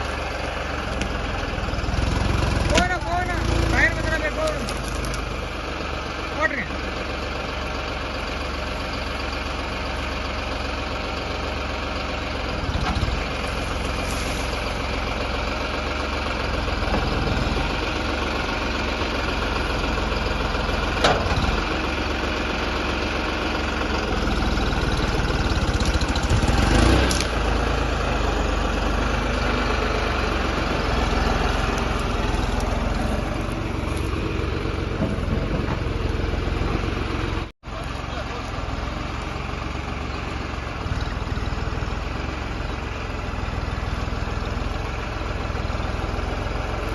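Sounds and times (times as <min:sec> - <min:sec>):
heavy vehicle engine running: 0:00.0 - 0:46.9.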